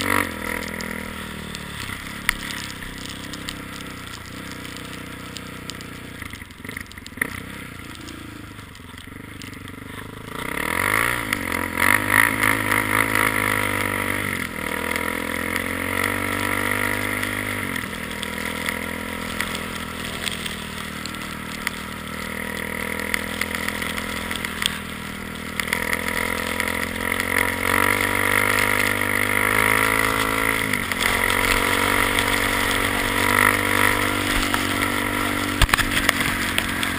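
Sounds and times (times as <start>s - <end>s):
atv engine revving: 0.0s - 36.9s.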